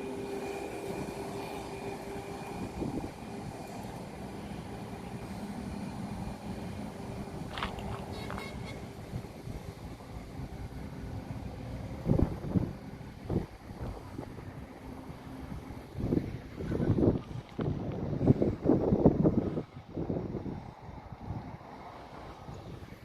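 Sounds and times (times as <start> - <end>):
engine noise: 0.0 - 23.0.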